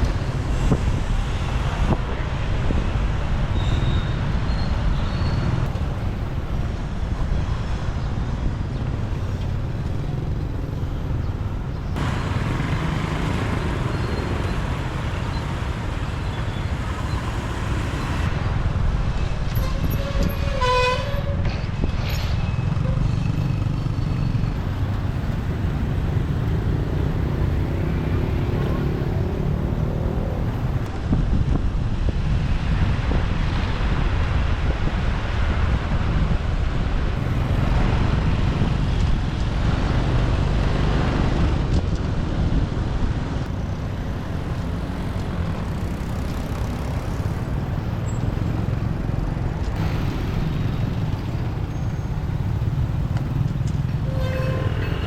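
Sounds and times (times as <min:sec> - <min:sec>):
motorbike engine and road rumble: 0:00.0 - 0:55.0
passing traffic: 0:00.0 - 0:55.0.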